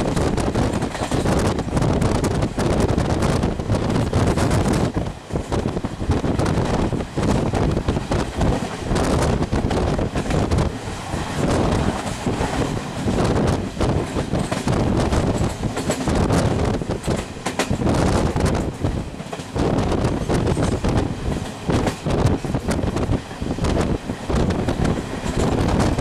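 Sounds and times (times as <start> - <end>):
train wheels rumbling on rails: 0.0 - 26.0
wind buffeting microphone: 0.0 - 26.0.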